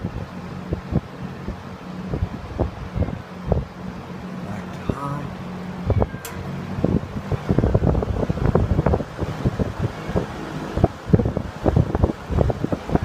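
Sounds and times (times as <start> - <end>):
airflow buffeting microphone: 0.0 - 13.0
box fan running: 0.0 - 13.0.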